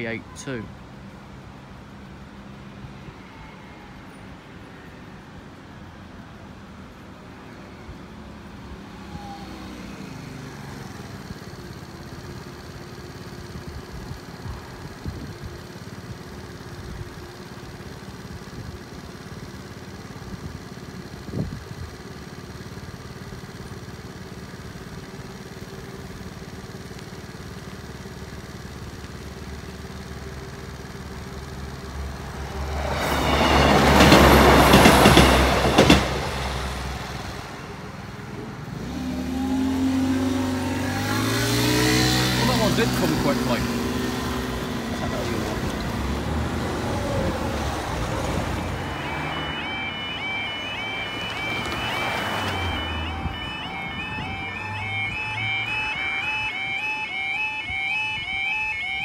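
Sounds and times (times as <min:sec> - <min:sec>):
diesel train passing: 0:03.8 - 0:59.0.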